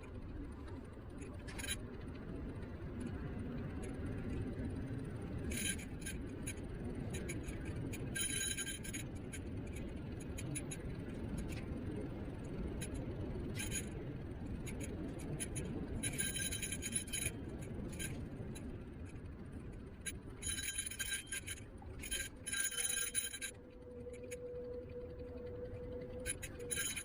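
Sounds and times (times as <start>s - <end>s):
steady hum: 0.0s - 27.0s
wheels rumbling on road: 0.0s - 27.0s.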